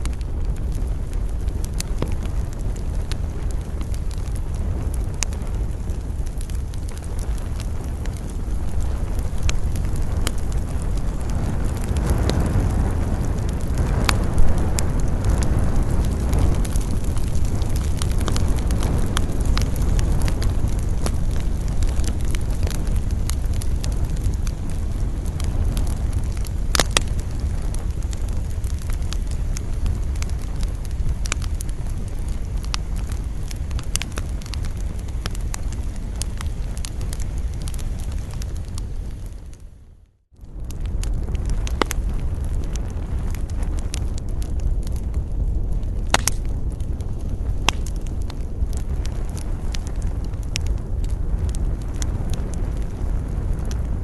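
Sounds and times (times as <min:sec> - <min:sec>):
campfire crackling and popping: 0:00.0 - 0:54.0
low rumble of wind: 0:00.0 - 0:54.0.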